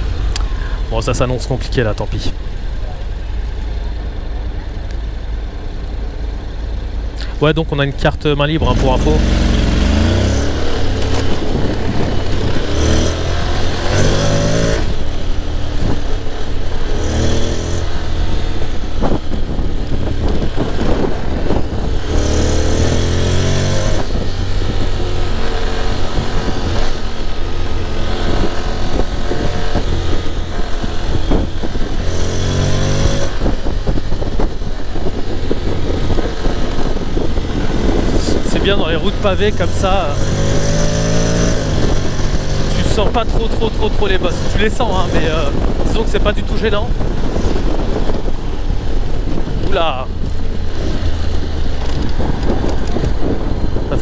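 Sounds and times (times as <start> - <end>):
motorcycle engine accelerating: 0.0 - 54.0
road and wind noise: 0.0 - 54.0.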